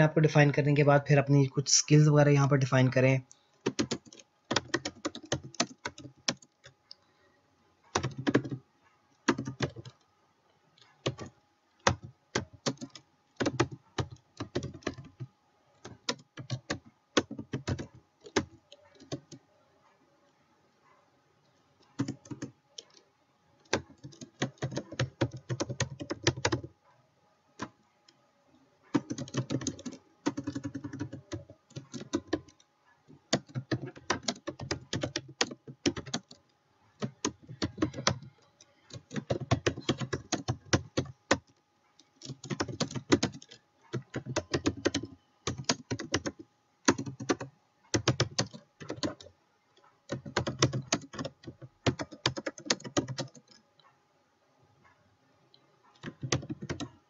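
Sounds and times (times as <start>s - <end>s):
computer keyboard typing: 3.3s - 7.1s, 7.8s - 10.1s, 10.8s - 19.4s, 20.8s - 26.7s, 28.8s - 53.9s, 55.8s - 57.0s.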